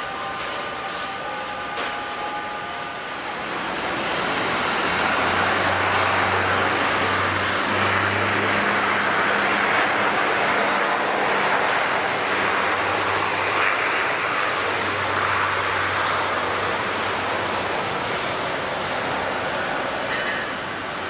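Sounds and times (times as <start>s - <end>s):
airliner engine rushing: 0.0s - 21.0s.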